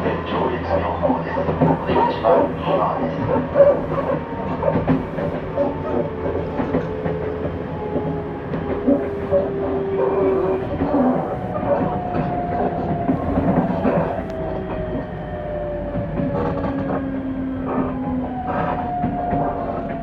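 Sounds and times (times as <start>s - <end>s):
train rumble: 0.0s - 20.0s
train whine falling in pitch: 3.4s - 20.0s.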